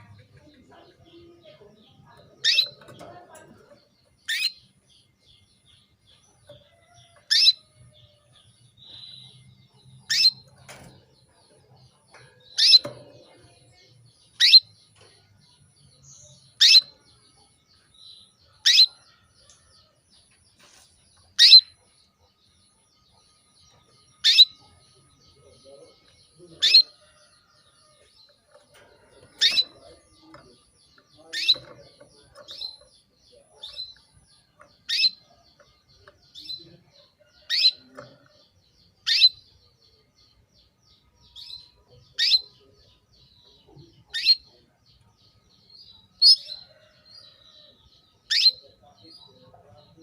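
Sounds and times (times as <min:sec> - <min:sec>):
canary chirping calls: 0:00.0 - 0:19.7, 0:20.6 - 0:50.0.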